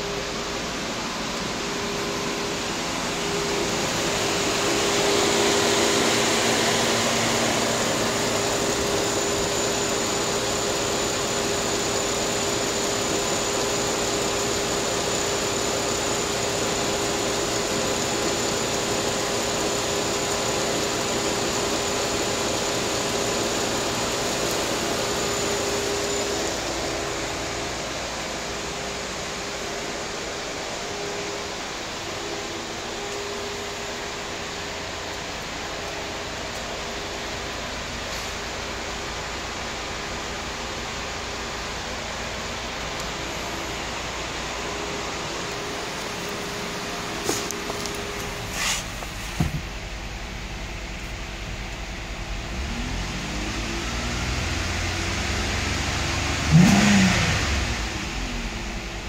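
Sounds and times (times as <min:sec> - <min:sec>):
faint high whine: 0:00.0 - 0:53.9
car engine idling: 0:00.0 - 0:59.0.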